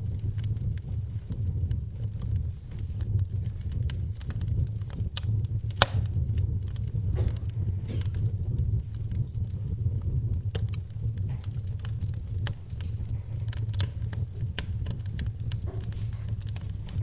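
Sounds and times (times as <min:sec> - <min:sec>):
low rumble: 0:00.0 - 0:17.0
wood fire crackling: 0:00.0 - 0:17.0.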